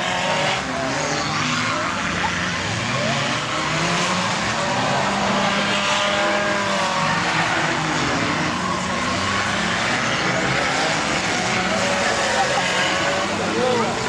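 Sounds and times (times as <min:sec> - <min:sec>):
small race car engines revving: 0:00.0 - 0:14.0.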